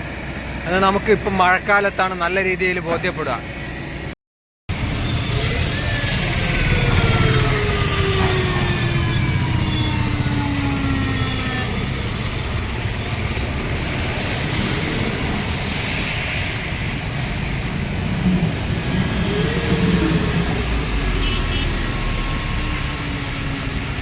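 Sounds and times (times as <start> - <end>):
heavy vehicle engines running: 0.0 - 4.1, 4.7 - 24.0.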